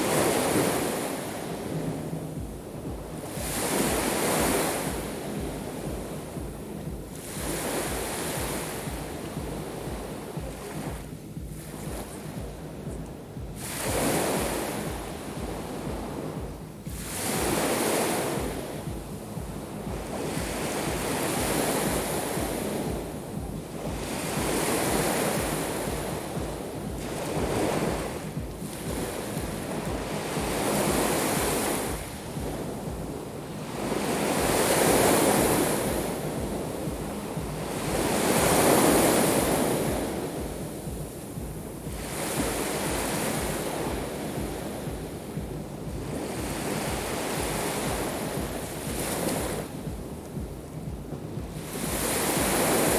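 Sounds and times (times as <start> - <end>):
waves breaking on shore: 0.0 - 52.9
wind rumbling on microphone: 0.0 - 52.9.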